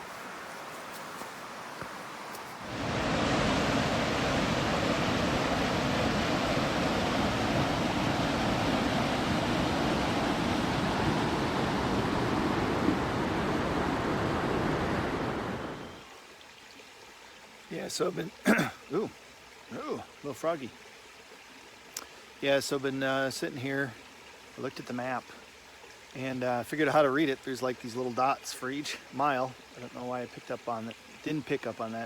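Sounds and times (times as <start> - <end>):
rushing river water: 0.0 - 32.0.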